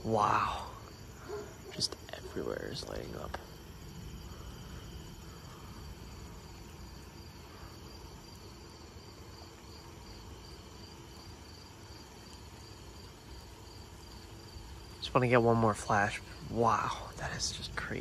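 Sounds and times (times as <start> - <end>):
crickets chirping: 0.0 - 18.0
low background rumble: 0.0 - 18.0.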